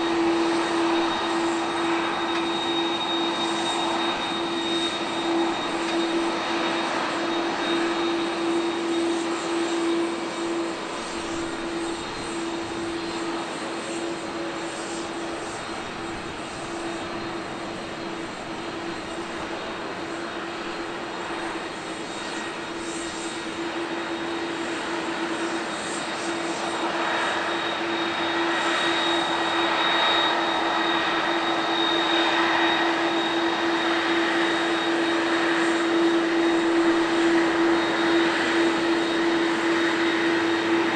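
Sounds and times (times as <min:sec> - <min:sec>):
jet engines humming: 0:00.0 - 0:40.9.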